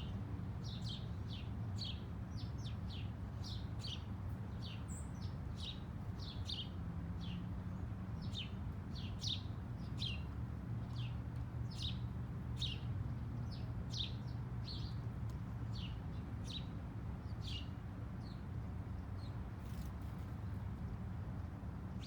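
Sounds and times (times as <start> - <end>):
songbirds chirping: 0.0 - 21.1.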